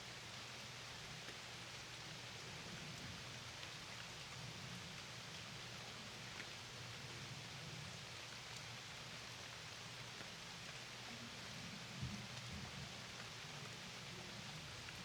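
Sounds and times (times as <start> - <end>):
rain falling on a lake: 0.0 - 15.0.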